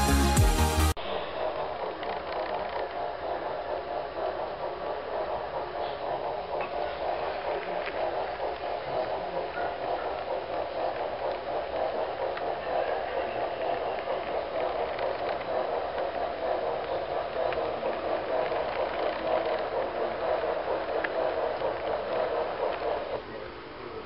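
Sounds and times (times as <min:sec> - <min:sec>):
model train wheels rumbling on rail: 0:01.0 - 0:24.0.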